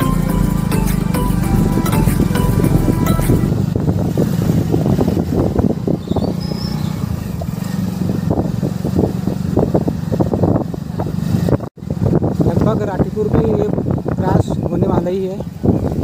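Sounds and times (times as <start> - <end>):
motorcycle engine running: 0.0 - 14.1
wind buffeting microphone: 1.3 - 16.0.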